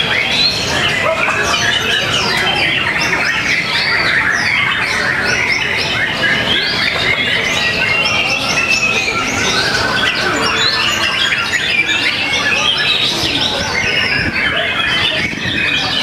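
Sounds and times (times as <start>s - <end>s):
many birds singing: 0.0s - 16.0s
steady background noise: 0.0s - 16.0s.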